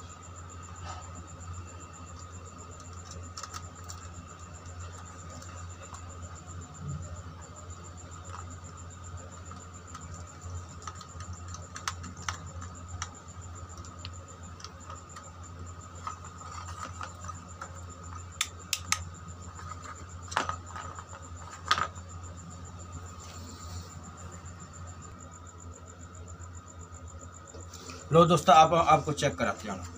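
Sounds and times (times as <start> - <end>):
crickets chirping: 0.0 - 29.9
steady low hum: 0.0 - 29.9.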